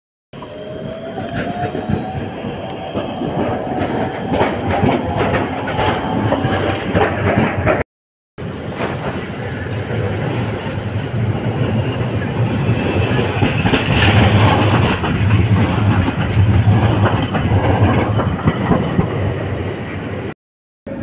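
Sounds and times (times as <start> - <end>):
tram wheels rolling on rails: 0.4 - 7.8, 8.4 - 20.3.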